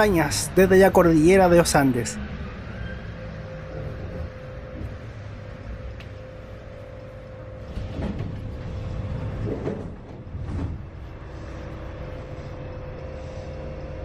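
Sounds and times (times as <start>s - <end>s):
stopped train low rumble: 0.0s - 14.0s
train doors sliding open: 0.0s - 14.0s.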